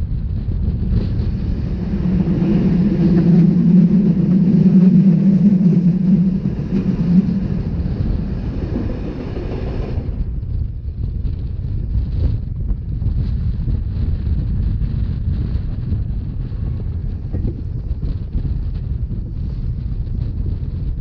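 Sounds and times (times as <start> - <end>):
train running: 0.0 - 21.0
wind on microphone: 0.0 - 21.0.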